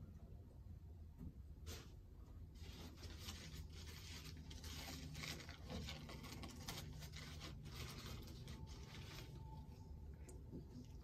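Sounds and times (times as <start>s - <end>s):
low steady hum: 0.0s - 11.0s
faint rustling and scraping: 1.5s - 11.0s.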